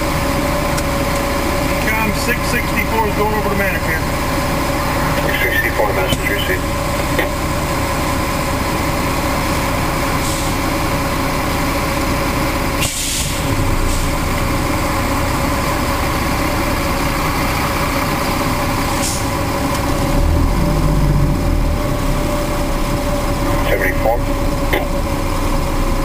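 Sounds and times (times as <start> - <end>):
steady whining tone: 0.0 - 12.8, 13.4 - 26.0
diesel engine in cab: 0.0 - 26.0
road noise: 0.0 - 26.0.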